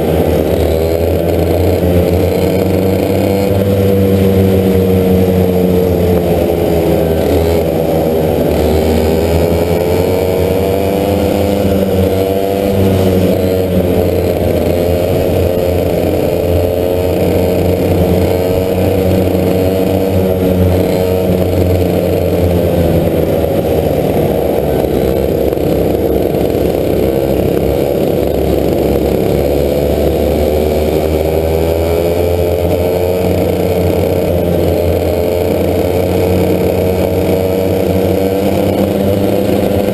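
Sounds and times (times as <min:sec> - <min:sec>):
kart engine at high revs: 0:00.0 - 0:39.9.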